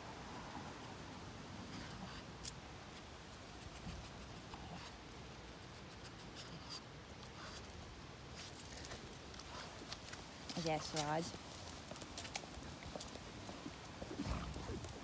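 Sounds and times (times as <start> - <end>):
rustling of foliage: 0.0 - 15.0.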